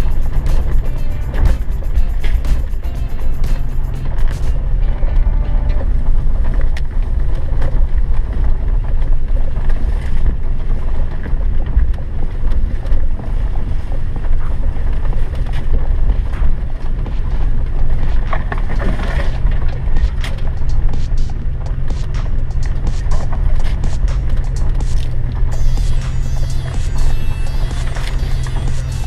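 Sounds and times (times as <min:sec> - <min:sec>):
car engine rumble: 0:00.0 - 0:29.0.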